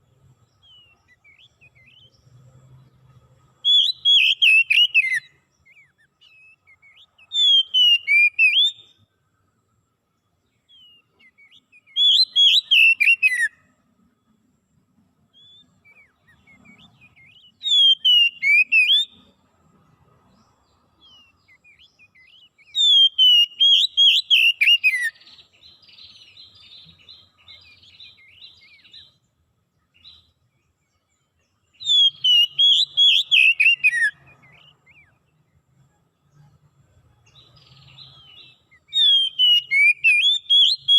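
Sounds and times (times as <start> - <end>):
faint bird chirps: 0.0 - 40.9
songbird singing: 0.0 - 40.9.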